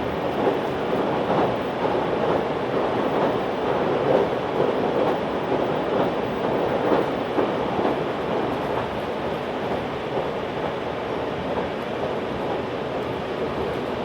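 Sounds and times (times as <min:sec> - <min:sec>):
train wheels rolling on rails: 0:00.0 - 0:14.0.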